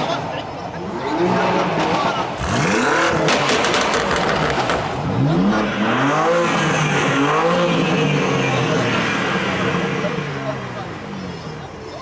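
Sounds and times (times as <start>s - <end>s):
car engine revving: 0.0s - 12.0s
rapid exhaust crackle: 1.8s - 12.0s.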